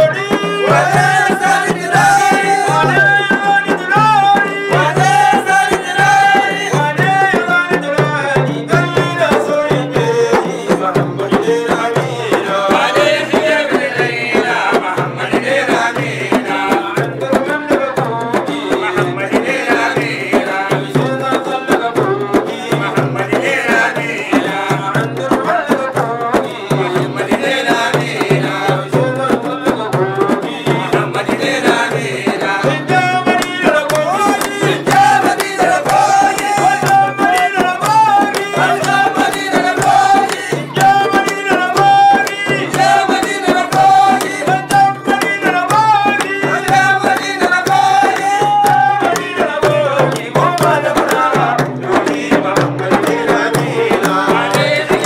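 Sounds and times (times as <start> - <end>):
hand drum beat: 0.0 - 55.0
person singing: 0.0 - 55.0.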